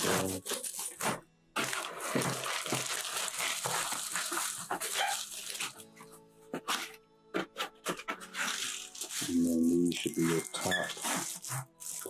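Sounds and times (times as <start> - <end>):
plastic wrapping crinkling: 0.0 - 5.9, 7.9 - 12.0.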